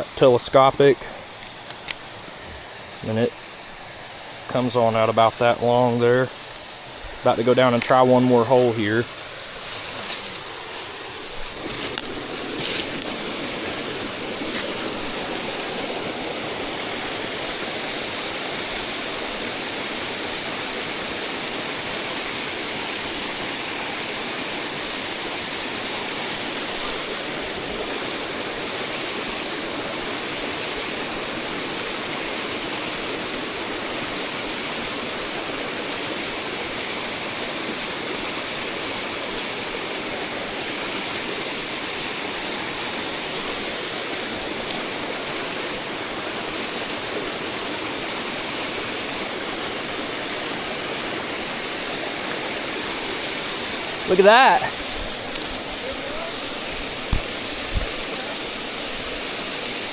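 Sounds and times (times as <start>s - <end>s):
stream rushing: 0.0s - 59.9s.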